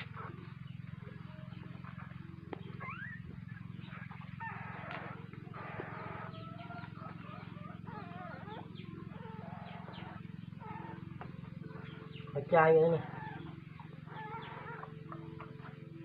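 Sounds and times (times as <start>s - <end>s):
animal squeaks and whines: 0.0s - 16.0s
steady low hum: 0.0s - 16.0s.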